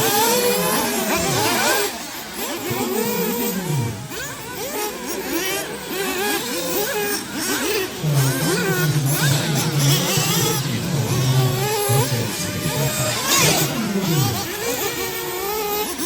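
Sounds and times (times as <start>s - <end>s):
steady low engine note: 0.0s - 6.2s, 6.8s - 15.5s
model car engines revving: 0.0s - 16.0s.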